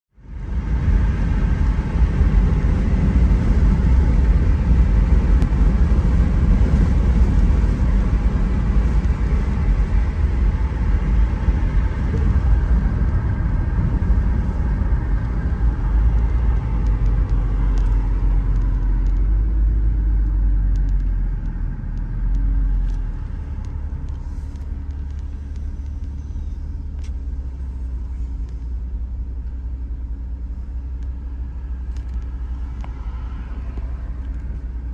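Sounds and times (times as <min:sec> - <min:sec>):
car road noise rumble: 0:00.1 - 0:34.9.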